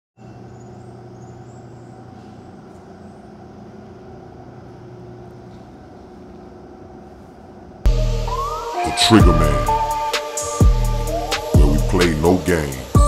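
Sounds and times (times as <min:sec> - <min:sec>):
steady machine hum: 0:00.2 - 0:13.0.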